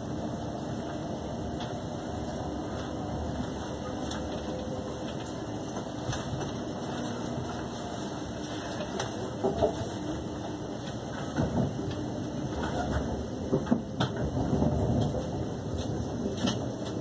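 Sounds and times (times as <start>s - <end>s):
train rumbling in motion: 0.0s - 17.0s.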